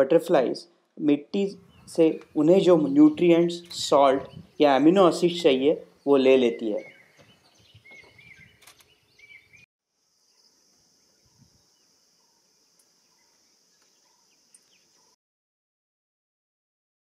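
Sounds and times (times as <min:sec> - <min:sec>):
bird chirps: 0:01.5 - 0:15.2.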